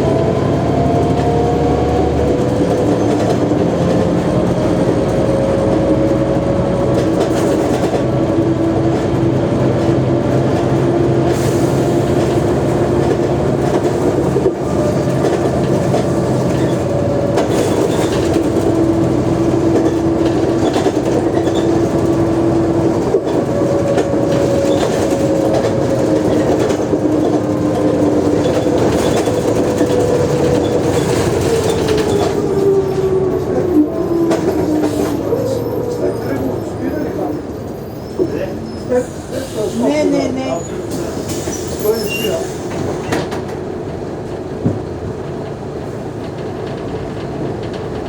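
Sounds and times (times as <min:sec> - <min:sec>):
bus diesel engine drone: 0:00.0 - 0:48.0.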